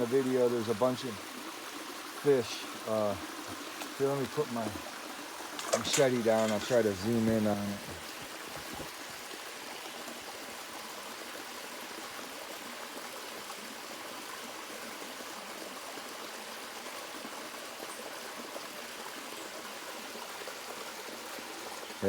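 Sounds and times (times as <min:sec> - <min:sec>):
waterfall and stream splashing: 0:00.0 - 0:22.0.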